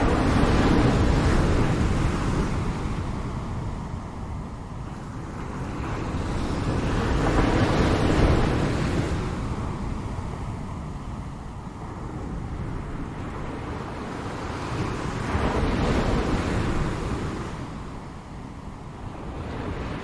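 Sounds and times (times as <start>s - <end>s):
ocean waves crashing on shore: 0.0s - 20.0s.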